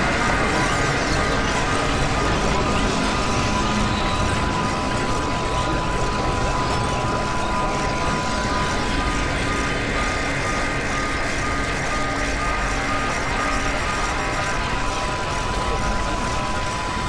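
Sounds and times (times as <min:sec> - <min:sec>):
alarm-like tones: 0:00.0 - 0:17.0.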